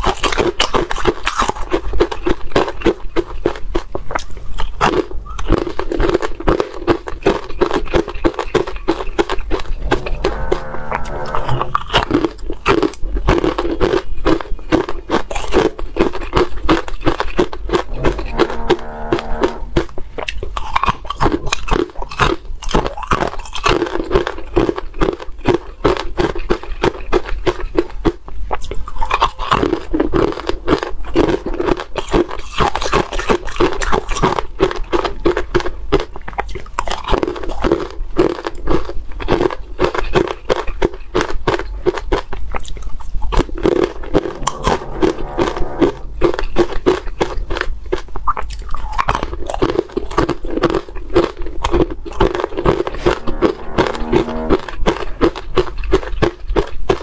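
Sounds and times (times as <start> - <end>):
crunching and chewing ice cubes: 0.0 - 10.8, 11.6 - 18.0, 19.8 - 44.2, 46.3 - 52.9, 55.2 - 57.0.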